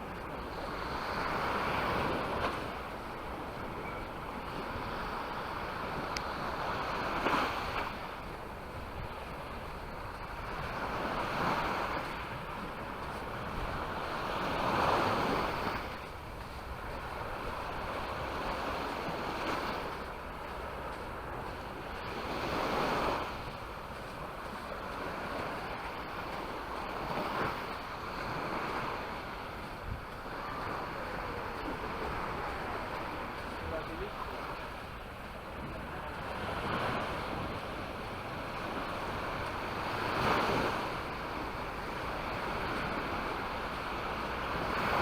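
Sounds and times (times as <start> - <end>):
small waves breaking on shore: 0.0 - 45.0.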